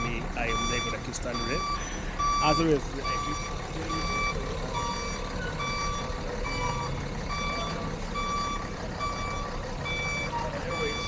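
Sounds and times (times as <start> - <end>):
truck engine rumble: 0.0 - 11.0
truck reversing alarm beeping: 0.0 - 11.0.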